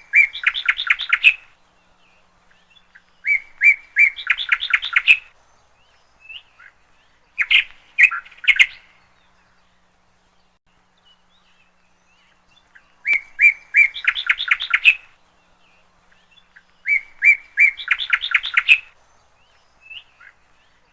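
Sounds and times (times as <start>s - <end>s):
songbird singing: 0.0s - 20.9s.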